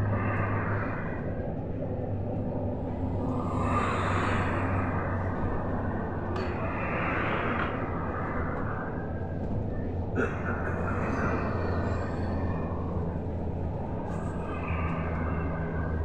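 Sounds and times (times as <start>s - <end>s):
low even hum: 0.0s - 16.0s.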